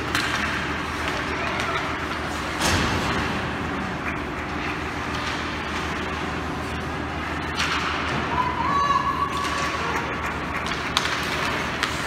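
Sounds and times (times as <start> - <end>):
ice rink game rumble: 0.0 - 12.0.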